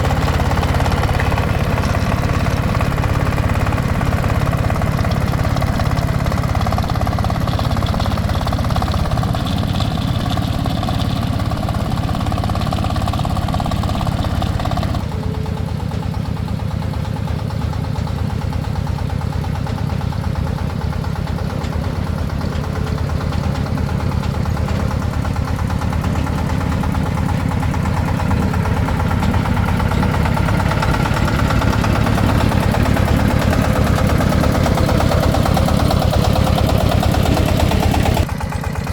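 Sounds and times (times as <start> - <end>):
engine running with even pulsing: 0.0 - 38.9.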